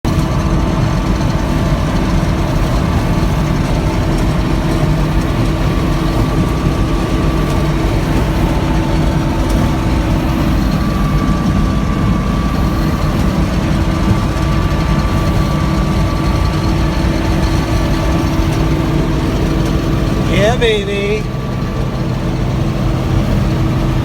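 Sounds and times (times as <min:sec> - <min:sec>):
harvester engine droning: 0:00.0 - 0:24.0.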